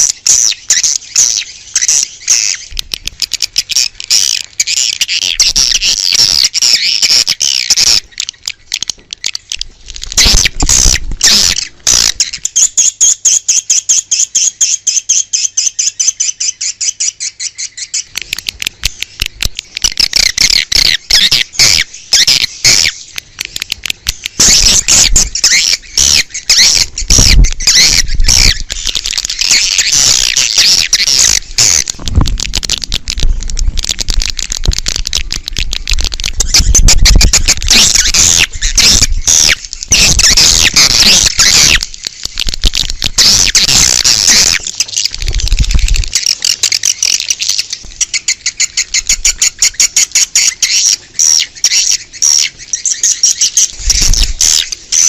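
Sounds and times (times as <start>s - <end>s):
swiftlets twittering and chirping: 0.0s - 55.0s.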